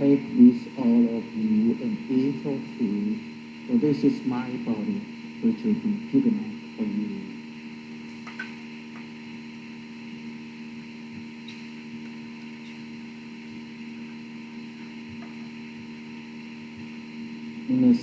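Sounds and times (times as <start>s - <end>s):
electrical hum and buzz: 0.0s - 18.0s
thin high whine: 0.0s - 18.0s.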